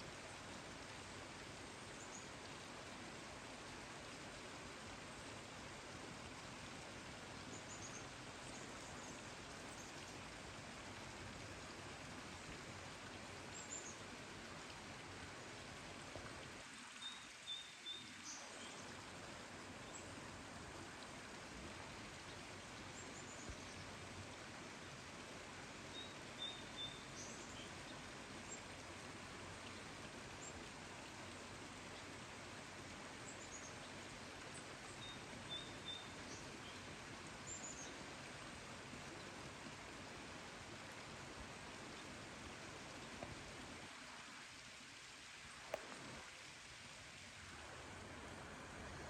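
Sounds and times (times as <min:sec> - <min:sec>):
steady rain: 0:00.0 - 0:49.0.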